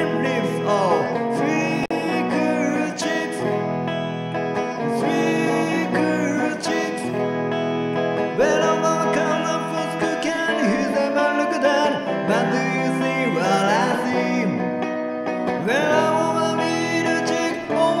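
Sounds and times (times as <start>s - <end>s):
electric guitar picked quickly: 0.0s - 18.0s.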